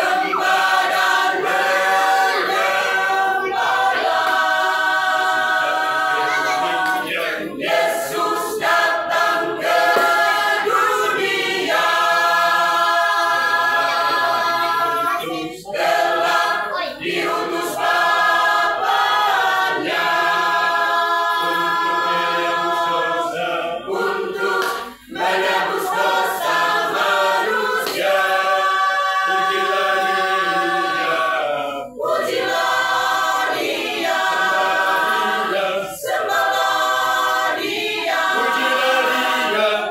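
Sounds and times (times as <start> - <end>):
mixed choir singing a cappella: 0.0 - 39.9.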